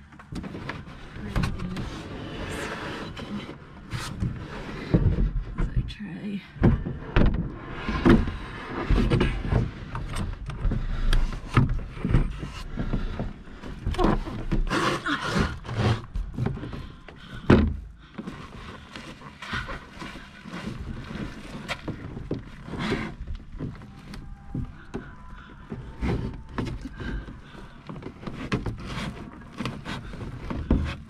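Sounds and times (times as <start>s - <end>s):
canoe knocks and scrapes: 0.0s - 31.0s.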